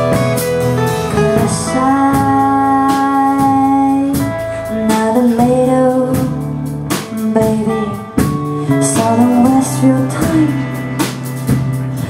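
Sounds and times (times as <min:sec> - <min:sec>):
person singing: 0:01.0 - 0:11.1.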